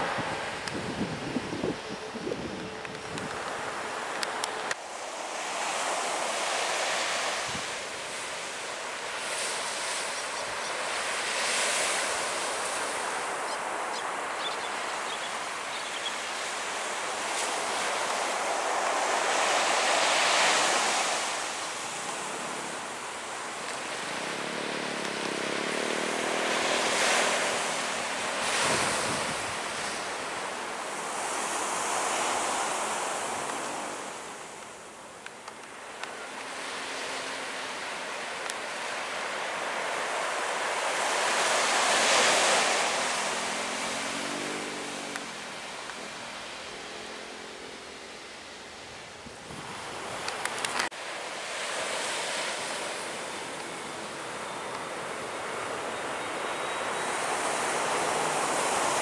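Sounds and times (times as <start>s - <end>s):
surf washing on a beach: 0.0s - 59.0s.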